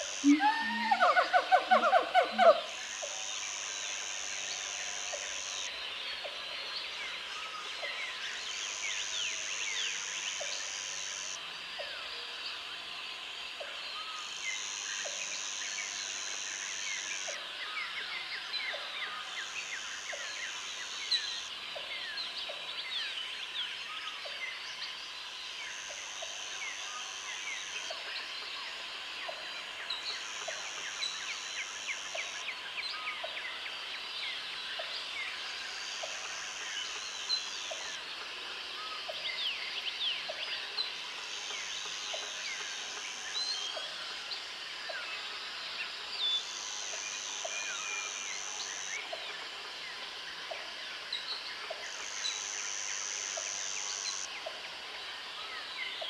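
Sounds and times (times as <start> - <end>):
steady insect hum: 0.0 - 56.0.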